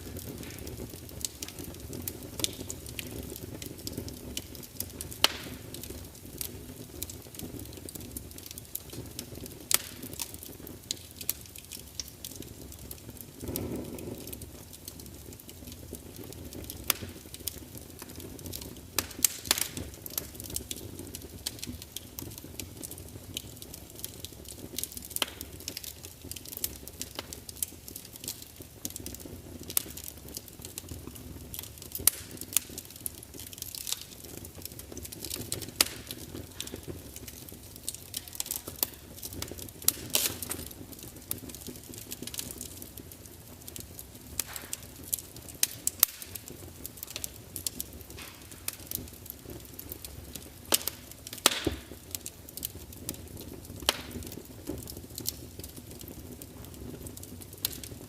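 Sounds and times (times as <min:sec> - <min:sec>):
logs crackling and popping: 0:00.0 - 0:58.0
wood fire burning with rumble: 0:00.0 - 0:58.0.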